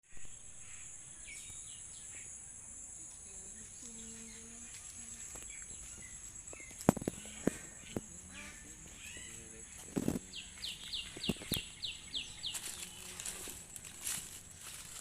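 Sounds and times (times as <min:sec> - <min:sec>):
insects buzzing: 0:00.0 - 0:15.0
birds chirping: 0:00.1 - 0:15.0.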